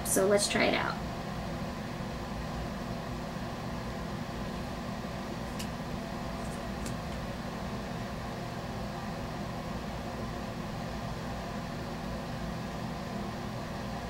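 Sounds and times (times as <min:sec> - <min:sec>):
low hum with faint hiss: 0:00.0 - 0:14.0.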